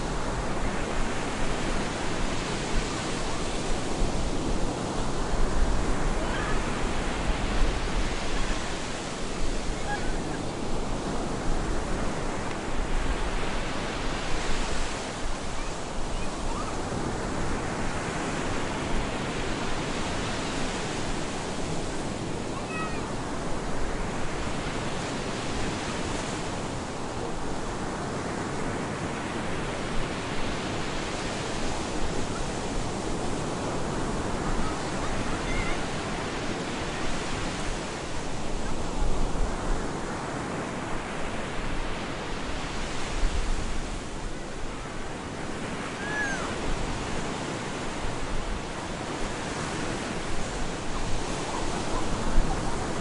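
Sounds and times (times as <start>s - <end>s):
ocean waves breaking on beach: 0.0s - 53.0s.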